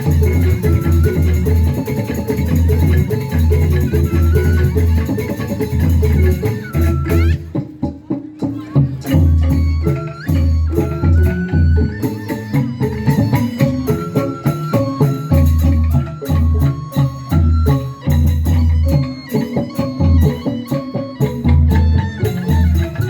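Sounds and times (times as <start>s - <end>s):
heavy drum beats: 0.0s - 23.0s
struck pitched melody: 0.0s - 23.0s.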